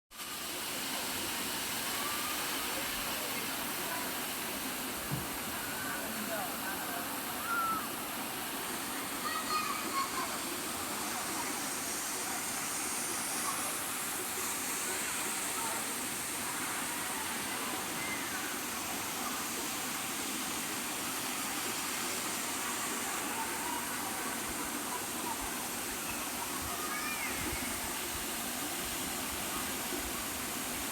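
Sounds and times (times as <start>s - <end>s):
waterfall rushing: 0.3s - 30.9s.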